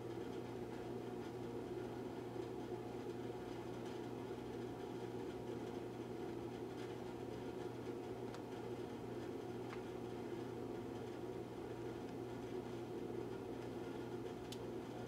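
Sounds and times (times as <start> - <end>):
room tone hum and hiss: 0.0 - 15.0.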